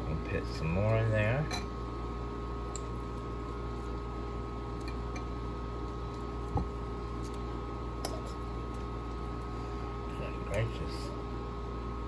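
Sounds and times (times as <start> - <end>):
ice maker humming: 0.0 - 12.0.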